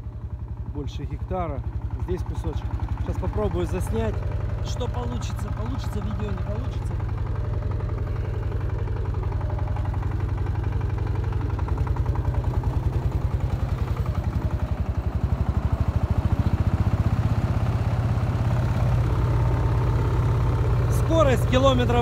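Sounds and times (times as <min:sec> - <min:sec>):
tractor engine at full throttle: 0:00.0 - 0:22.0.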